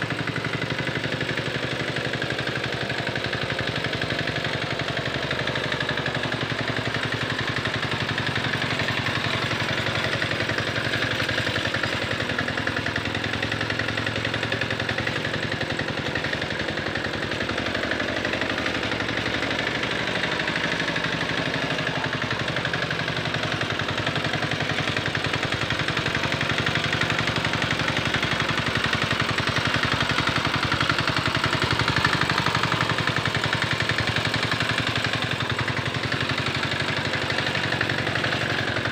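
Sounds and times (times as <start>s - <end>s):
hand tractor engine chugging: 0.0s - 38.9s.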